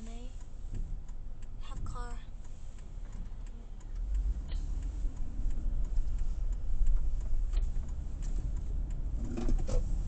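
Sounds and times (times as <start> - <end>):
car rumble from inside cabin: 0.0 - 10.0
faint ticks: 0.0 - 10.0.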